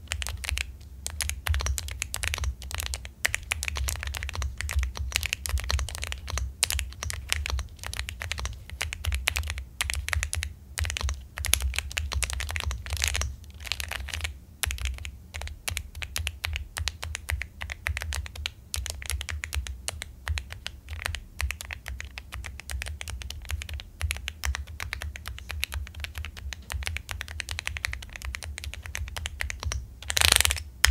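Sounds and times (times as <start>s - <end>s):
mechanical keyboard typing: 0.0s - 30.9s.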